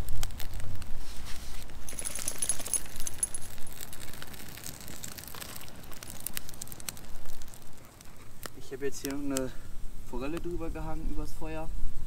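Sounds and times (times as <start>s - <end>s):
campfire crackling: 0.0s - 11.7s.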